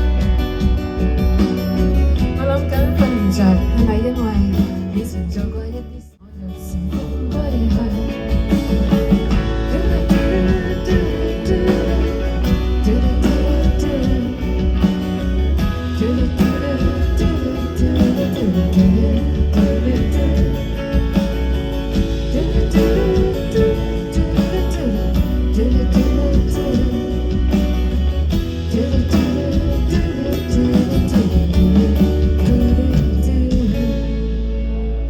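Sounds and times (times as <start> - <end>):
bass guitar: 0.0 - 35.0
guitar: 0.0 - 35.0
live band music: 0.0 - 35.0.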